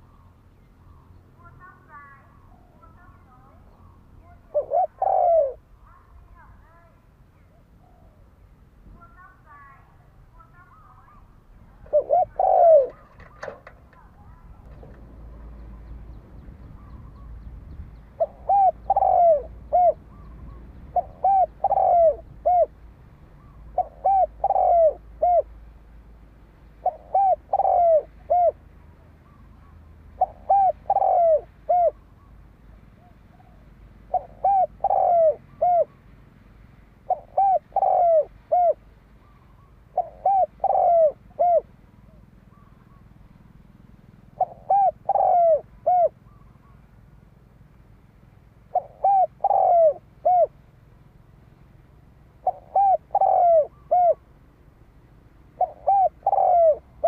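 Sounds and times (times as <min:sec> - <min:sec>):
dove cooing: 0:00.0 - 0:06.6, 0:07.4 - 0:08.3, 0:09.0 - 0:25.6, 0:26.8 - 0:36.0, 0:37.0 - 0:43.3, 0:44.1 - 0:46.9, 0:48.6 - 0:50.6, 0:52.2 - 0:54.4, 0:55.4 - 0:57.0.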